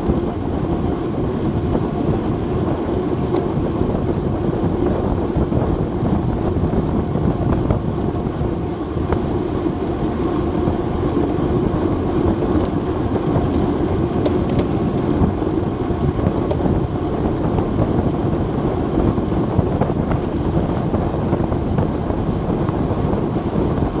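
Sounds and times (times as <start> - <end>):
wind noise on microphone: 0.0 - 24.0.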